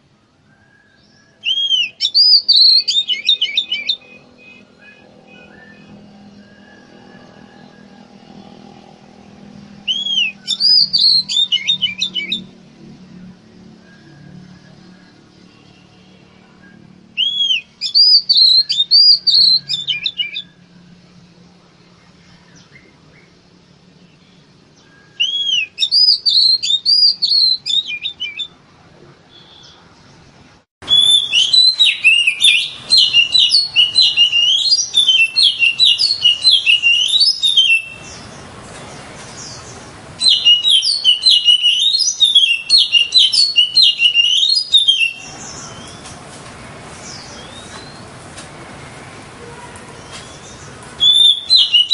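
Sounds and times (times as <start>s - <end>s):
bird singing: 0.0s - 46.2s, 47.0s - 48.2s, 49.5s - 51.9s.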